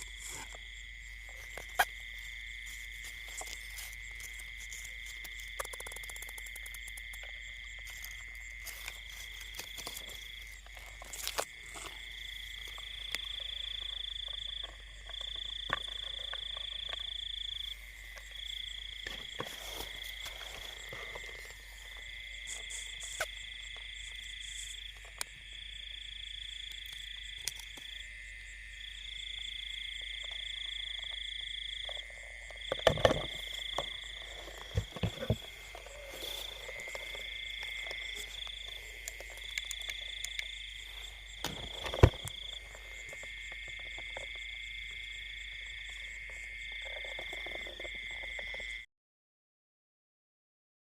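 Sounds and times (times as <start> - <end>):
frogs and insects trilling: 0.0 - 48.9.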